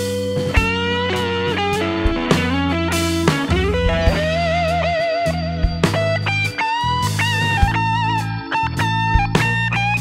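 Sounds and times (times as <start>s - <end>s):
bass line: 0.0s - 10.0s
guitar melody: 0.0s - 10.0s.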